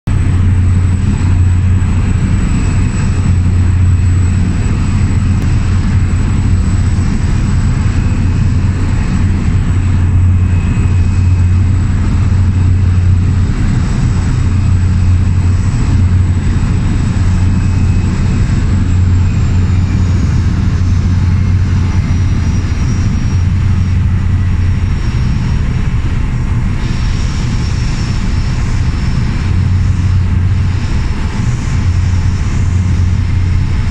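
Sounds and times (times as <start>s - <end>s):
floatplane engine drone: 0.0s - 33.9s.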